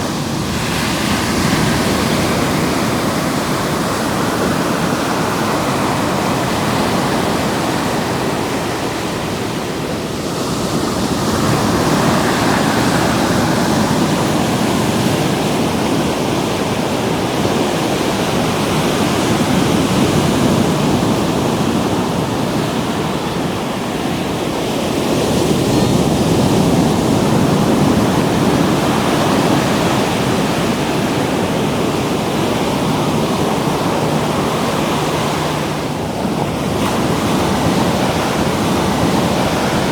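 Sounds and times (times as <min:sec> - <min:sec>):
ocean surf breaking: 0:00.0 - 0:39.9
wind on microphone: 0:00.0 - 0:39.9.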